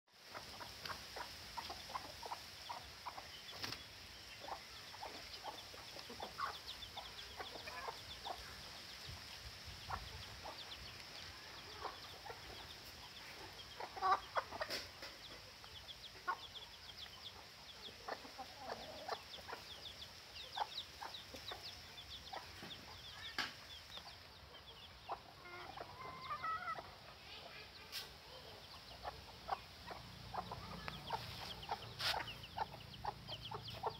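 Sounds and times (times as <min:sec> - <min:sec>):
chicks peeping: 0:00.2 - 0:33.9
hen clucking: 0:00.2 - 0:33.9.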